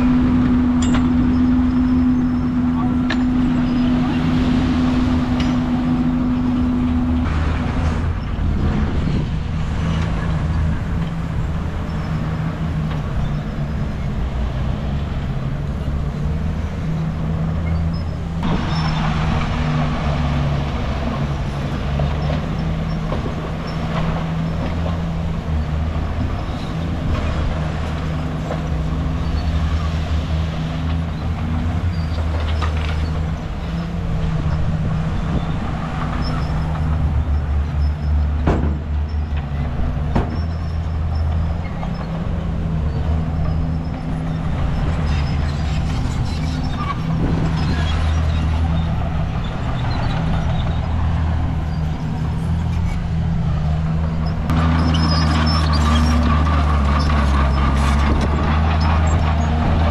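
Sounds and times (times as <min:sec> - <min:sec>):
diesel machinery engine drone: 0:00.0 - 0:59.9.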